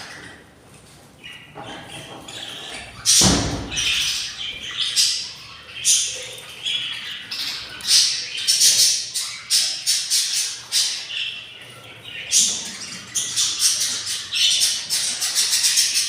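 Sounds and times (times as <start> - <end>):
budgerigar chicks squawking: 1.2 - 16.0.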